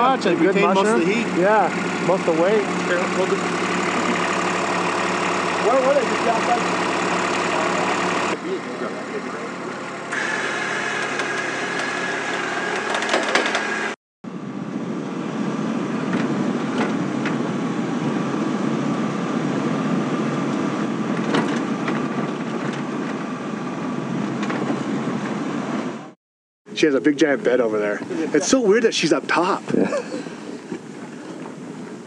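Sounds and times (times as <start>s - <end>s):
vehicle engine running: 0.0s - 26.2s.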